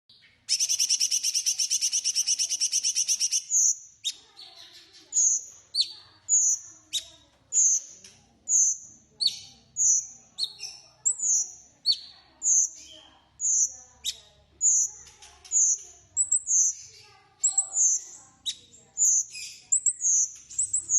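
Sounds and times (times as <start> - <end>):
songbird trilling and whistling: 0.1 - 20.9.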